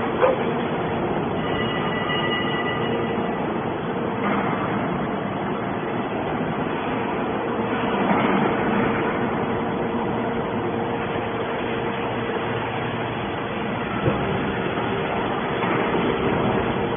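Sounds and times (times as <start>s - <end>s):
machinery running: 0.0s - 16.9s.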